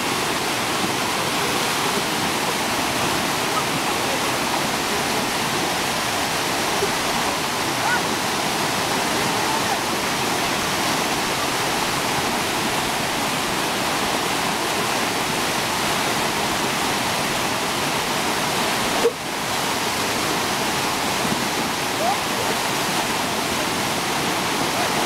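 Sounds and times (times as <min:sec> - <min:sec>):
floodwater rushing over rocks: 0:00.0 - 0:25.0.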